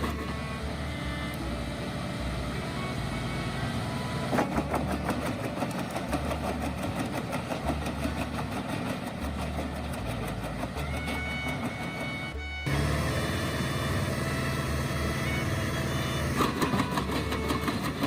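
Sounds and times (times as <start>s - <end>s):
wood chipper engine humming: 0.0s - 18.0s.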